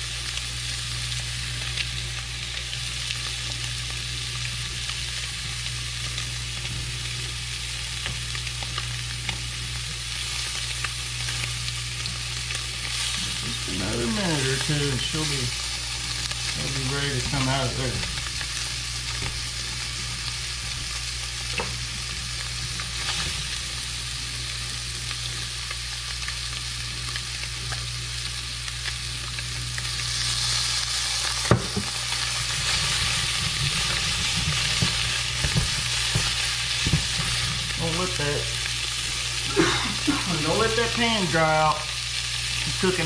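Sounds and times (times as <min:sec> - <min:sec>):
fish sizzling in oil: 0:00.0 - 0:43.0.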